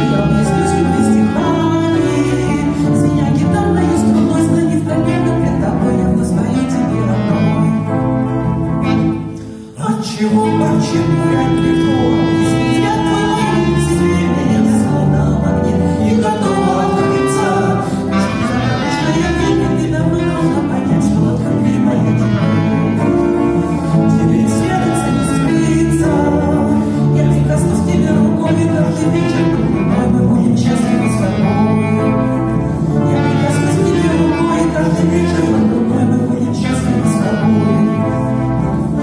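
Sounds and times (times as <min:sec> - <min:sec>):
cheerful pop music: 0:00.0 - 0:39.0.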